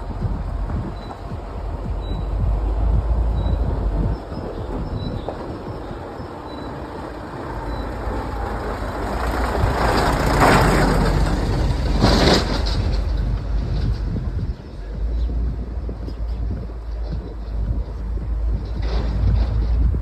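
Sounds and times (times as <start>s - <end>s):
rushing noise: 0.0s - 20.0s
vehicle engine and tyres rumbling: 0.0s - 20.0s.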